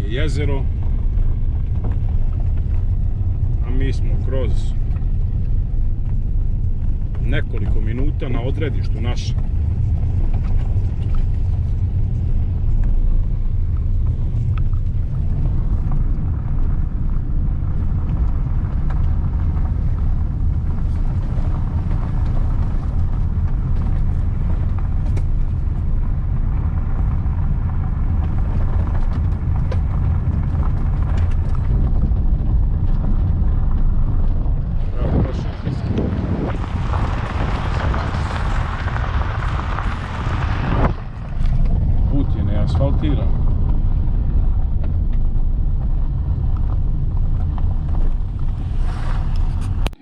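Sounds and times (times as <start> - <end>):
van engine and road noise: 0.0 - 50.0.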